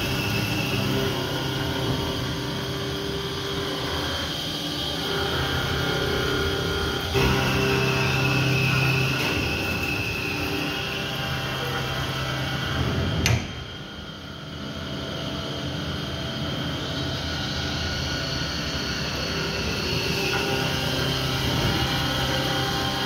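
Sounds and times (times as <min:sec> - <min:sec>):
faint high whine: 0:00.0 - 0:23.0
milling machine hum: 0:00.0 - 0:23.0.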